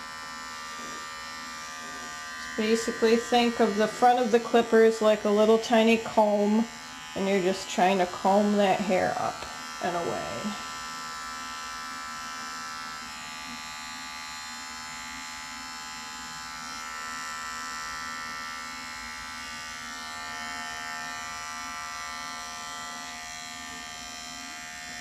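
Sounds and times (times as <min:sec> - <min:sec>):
electric pet clipper whine: 0:00.0 - 0:25.0.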